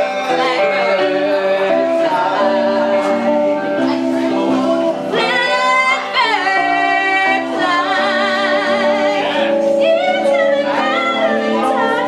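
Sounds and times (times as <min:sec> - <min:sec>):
sustained accompanying chords: 0:00.0 - 0:12.0
woman singing with vibrato: 0:00.0 - 0:12.0.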